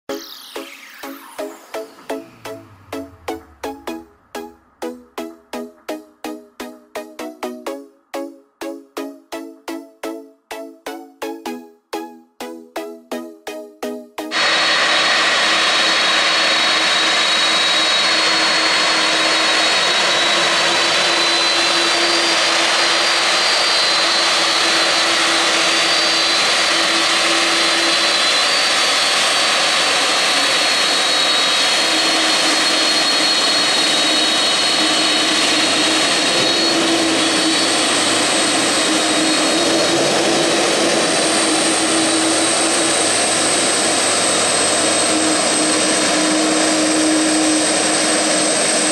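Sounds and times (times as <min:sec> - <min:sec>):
jet engines taxiing: 0:00.1 - 0:07.8, 0:14.2 - 0:48.9.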